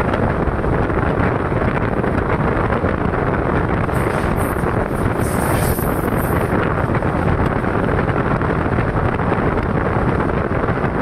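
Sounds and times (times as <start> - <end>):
high wind hiss: 0.0 - 11.0
train wheel and rail rumble: 0.0 - 11.0
wind buffeting microphone: 0.0 - 11.0.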